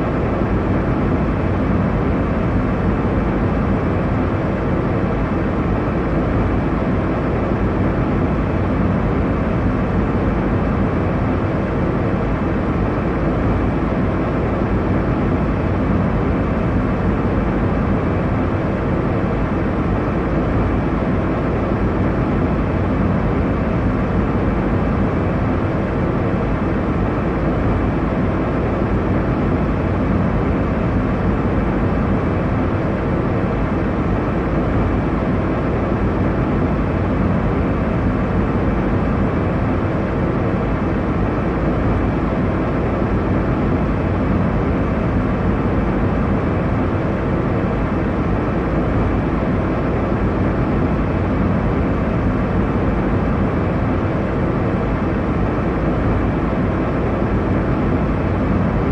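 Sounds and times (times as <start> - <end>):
airliner cabin engine roar: 0.0 - 58.9.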